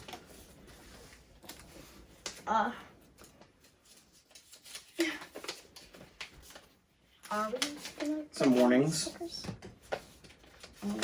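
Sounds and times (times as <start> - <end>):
paper and plastic rustling: 0.0 - 11.0.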